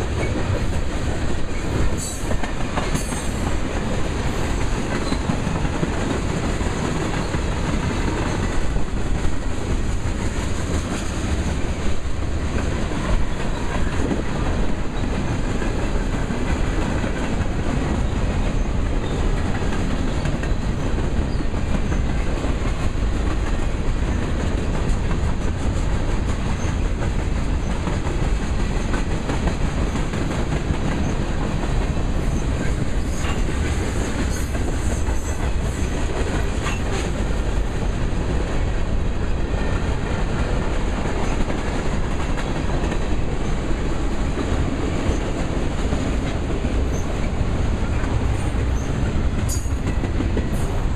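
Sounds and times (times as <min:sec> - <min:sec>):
train wheels rumbling on rail: 0:00.0 - 0:50.9
wheels clickety-clack over rail joints: 0:00.0 - 0:50.9.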